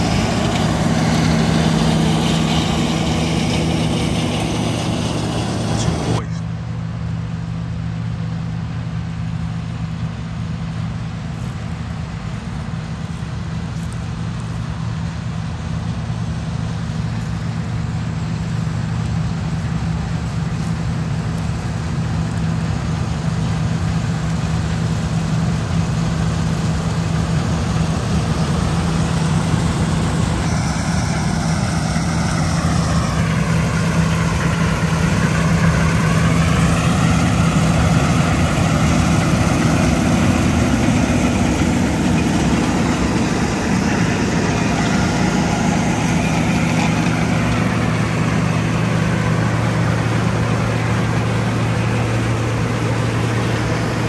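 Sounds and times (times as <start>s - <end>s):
combine harvester diesel engine drone: 0.0s - 54.0s.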